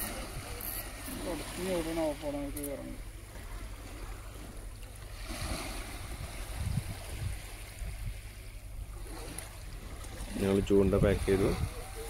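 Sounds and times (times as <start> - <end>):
low steady rumble: 0.0 - 12.0
waves washing against rocks: 0.0 - 12.0.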